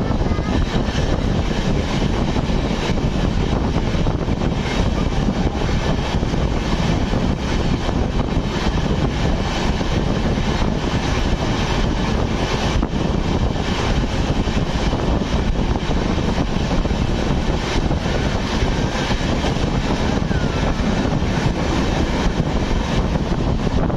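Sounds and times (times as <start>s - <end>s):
train coaches rolling past: 0.0s - 23.9s.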